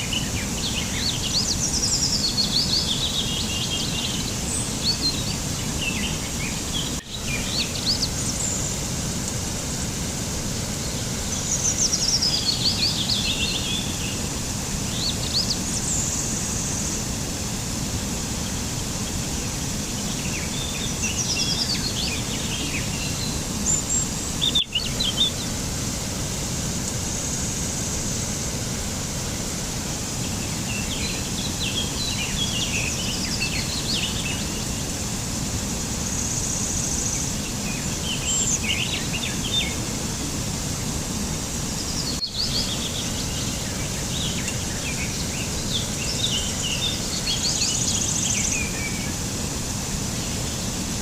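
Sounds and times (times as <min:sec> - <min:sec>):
low rushing background noise: 0:00.0 - 0:51.0
small birds chirping: 0:00.0 - 0:51.0.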